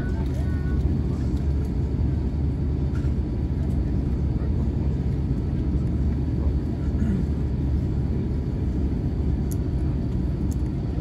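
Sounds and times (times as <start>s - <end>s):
aircraft cabin low rumble: 0.0s - 11.0s.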